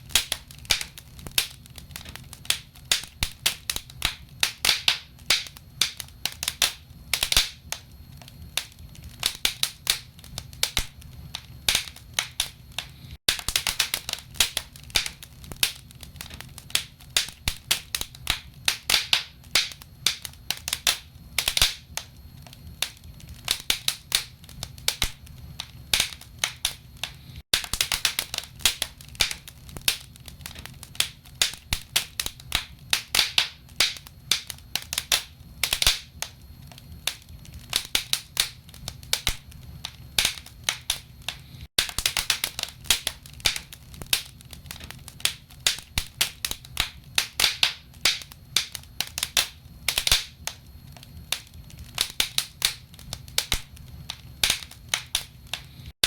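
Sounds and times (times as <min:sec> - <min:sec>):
fire rumbling: 0:00.0 - 0:55.9
wood fire crackling and popping: 0:00.0 - 0:56.0.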